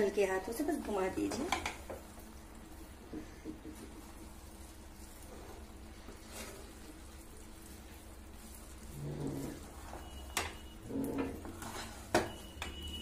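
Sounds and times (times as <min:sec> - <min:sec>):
spatula stirring rice in a pan: 0:01.1 - 0:13.0.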